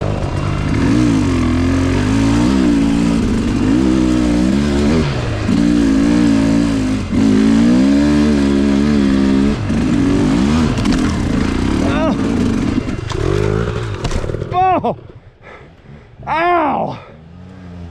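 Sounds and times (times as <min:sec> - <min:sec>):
dirt bike engine revving: 0:00.0 - 0:14.6.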